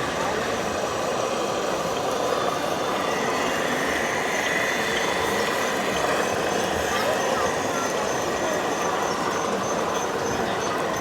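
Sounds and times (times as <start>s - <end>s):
model truck motors droning: 0.0s - 11.0s.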